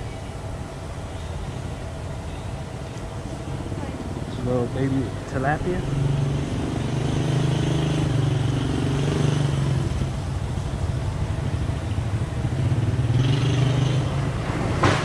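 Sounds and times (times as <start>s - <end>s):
low motor drone: 0.0s - 15.0s.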